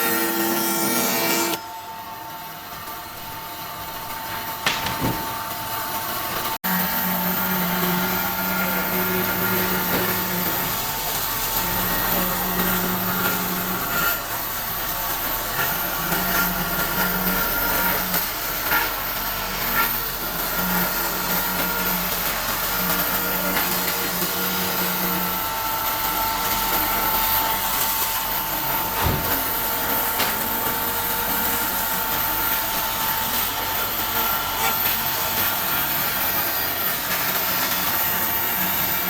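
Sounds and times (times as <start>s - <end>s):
power tool motor working wood: 0.0s - 1.7s, 3.0s - 39.0s.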